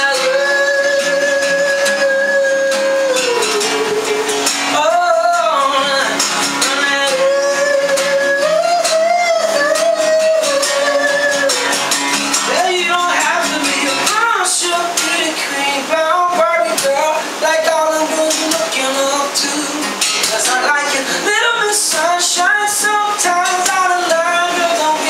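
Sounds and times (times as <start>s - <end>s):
guitar accompaniment: 0.0s - 25.0s
person singing wordless notes: 0.0s - 25.0s.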